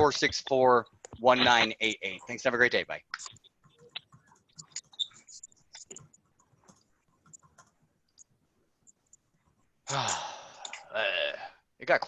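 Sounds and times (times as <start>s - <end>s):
faint clicking and tapping: 0.1s - 9.8s.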